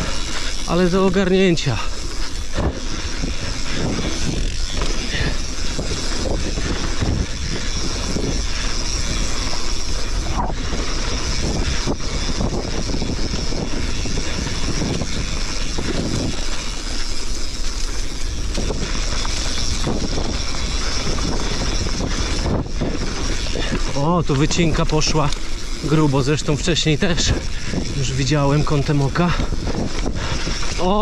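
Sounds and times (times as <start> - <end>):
bike knocking and rattling: 0.0 - 31.0
tyres rolling on dry dirt: 0.0 - 31.0
wind rushing over microphone: 0.0 - 31.0.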